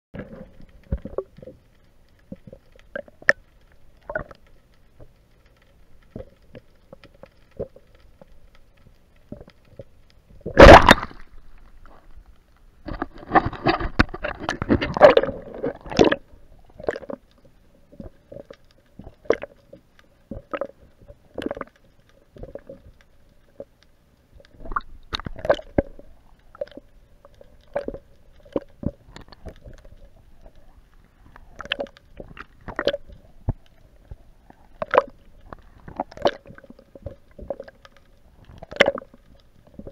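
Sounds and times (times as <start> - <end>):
underwater knocks and clicks: 0.2 - 23.8, 24.4 - 30.7, 31.3 - 39.9
underwater water noise: 0.2 - 39.9.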